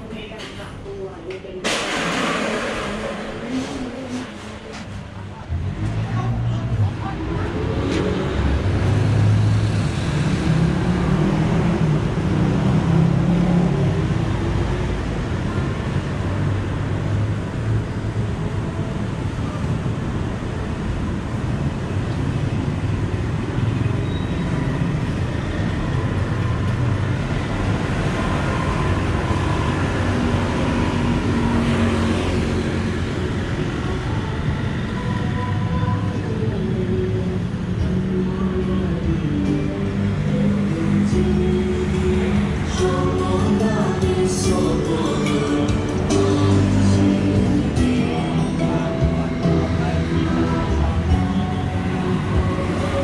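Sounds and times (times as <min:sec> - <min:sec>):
road traffic: 0:00.0 - 0:53.0.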